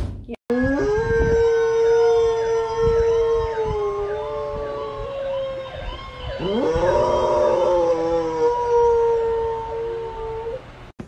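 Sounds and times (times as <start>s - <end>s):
dog howling: 0.5s - 10.7s
fire engine siren on television: 0.6s - 10.8s.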